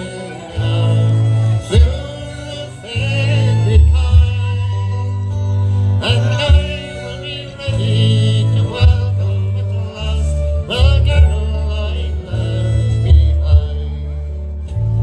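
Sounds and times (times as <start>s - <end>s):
deep bass notes: 0.0s - 15.0s
fiddle: 0.0s - 15.0s
man singing folk ballad: 0.0s - 15.0s
mandolin: 0.0s - 15.0s
strummed acoustic guitars: 0.0s - 15.0s.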